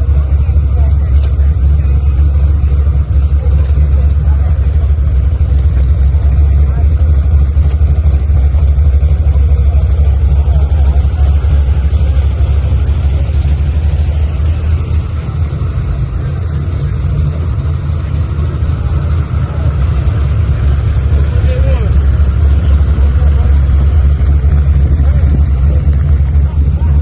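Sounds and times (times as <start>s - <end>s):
motor vehicle engine rumble: 0.0s - 27.0s.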